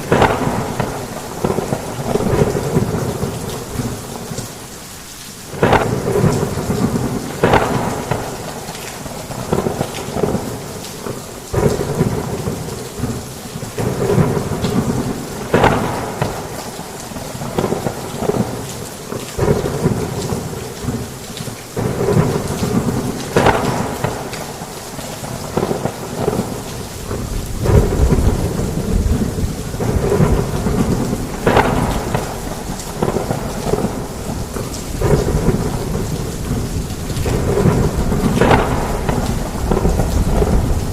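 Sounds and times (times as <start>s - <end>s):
thunder cracking and rumbling: 0.0s - 4.5s, 5.5s - 40.9s
heavy rain: 0.0s - 40.9s.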